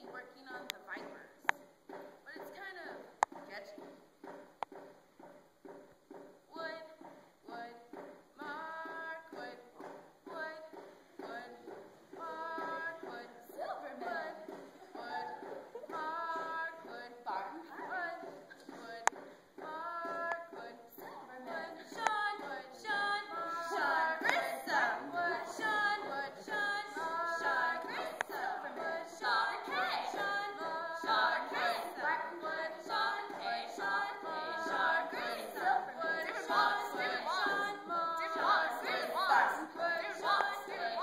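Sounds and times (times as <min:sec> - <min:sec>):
girls singing a cappella: 0:04.7 - 0:41.0.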